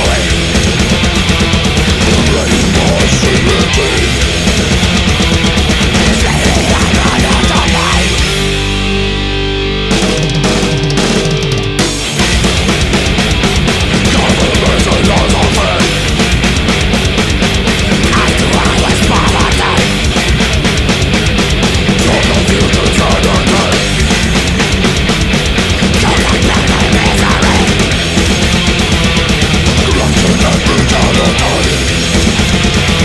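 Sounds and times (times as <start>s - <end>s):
fast dense drumming: 0.0s - 8.9s, 9.9s - 33.0s
distorted guitars and bass: 0.0s - 33.0s.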